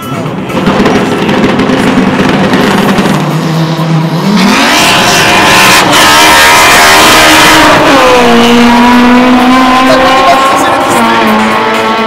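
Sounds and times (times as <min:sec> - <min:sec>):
drag racing car engine revving: 0:00.6 - 0:12.0.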